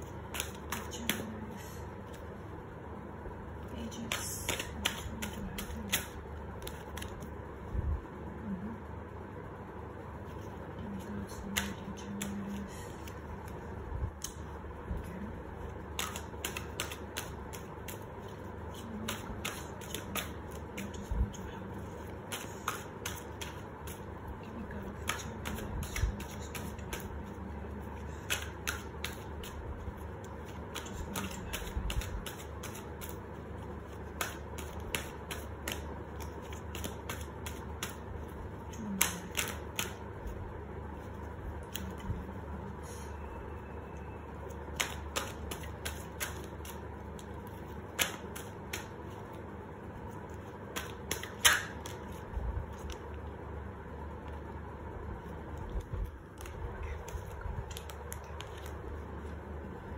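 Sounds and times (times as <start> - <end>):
cards being shuffled: 0.0 - 2.3, 3.8 - 7.4, 10.2 - 42.4, 44.3 - 53.3, 55.1 - 59.9.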